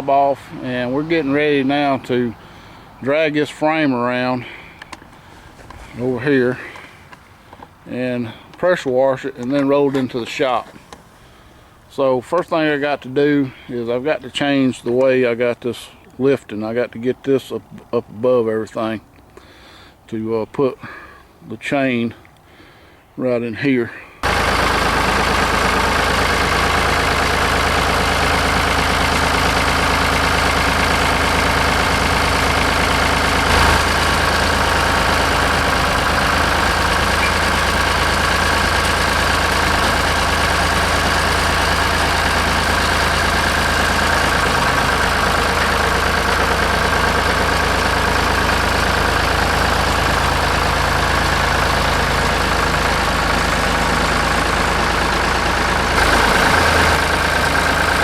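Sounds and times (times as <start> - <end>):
engine idling: 0.0 - 14.2, 24.2 - 58.0.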